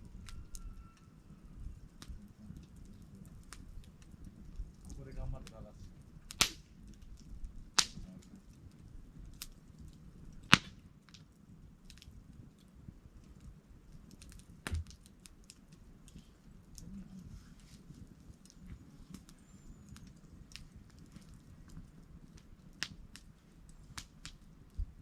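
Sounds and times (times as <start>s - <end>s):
campfire crackling: 0.0s - 25.0s
sharp fire pops: 1.5s - 25.0s.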